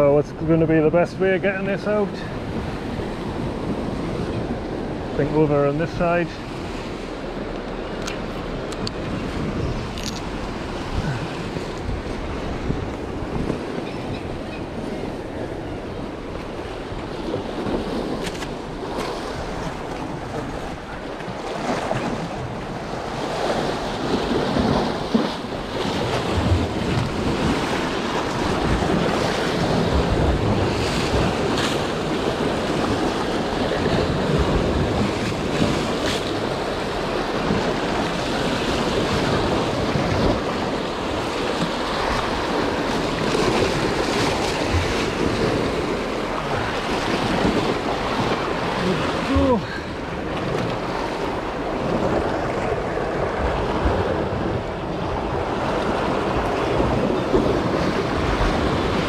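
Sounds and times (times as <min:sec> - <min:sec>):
surf washing over rocks: 0:00.0 - 0:59.0
wind buffeting microphone: 0:01.4 - 0:59.0.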